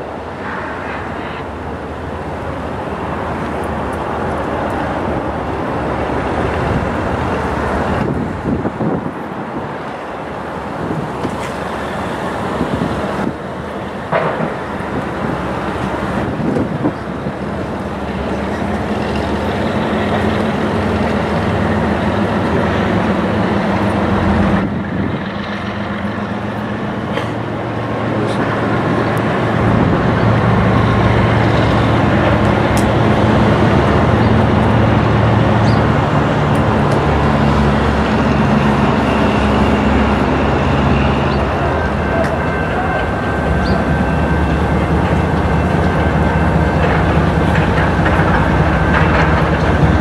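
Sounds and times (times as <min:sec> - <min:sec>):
diesel locomotive engine drone: 0:00.0 - 0:50.0.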